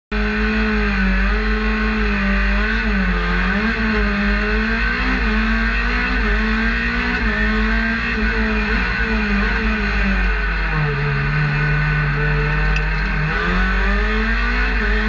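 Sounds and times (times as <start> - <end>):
race car engine running: 0.1 - 15.0.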